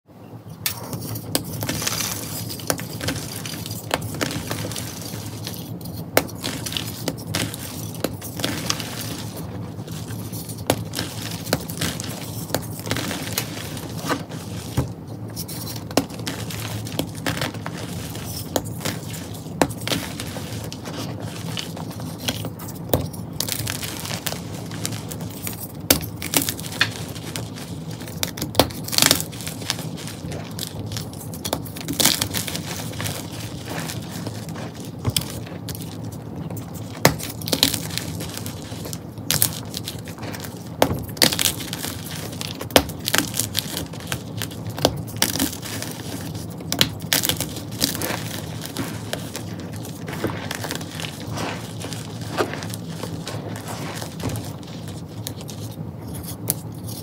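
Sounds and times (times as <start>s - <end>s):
chalk crunching and crumbling: 0.6s - 57.0s
powder rustling: 0.7s - 57.0s.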